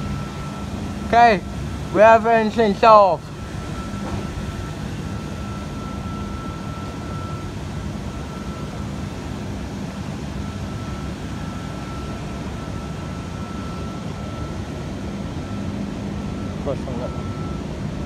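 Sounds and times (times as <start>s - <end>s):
thin high whine: 0.0s - 18.0s
train equipment hum and rumble: 0.0s - 18.0s.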